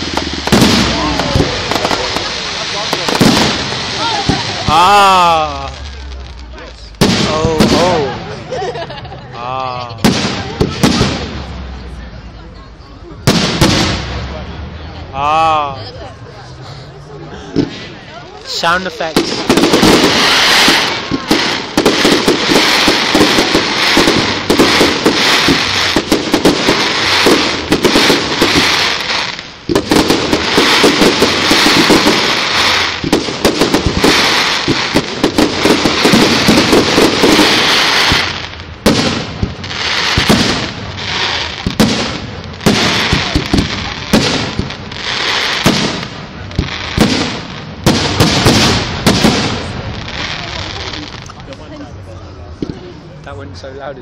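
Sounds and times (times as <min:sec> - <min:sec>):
fireworks bangs and crackling: 0:00.0 - 0:53.6.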